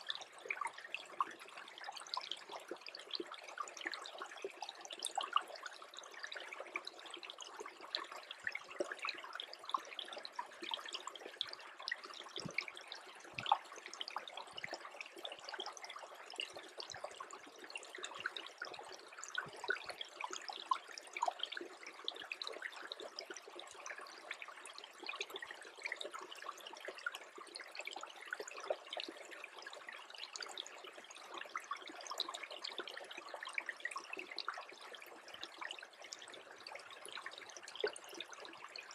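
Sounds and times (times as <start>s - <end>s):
creek trickling and bubbling: 0.0s - 38.9s
patter of tiny drips: 0.0s - 38.9s.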